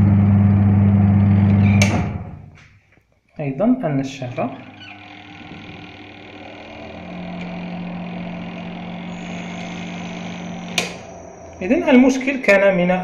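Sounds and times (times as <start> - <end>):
spin-dryer motor humming: 0.0 - 2.3, 4.5 - 13.0.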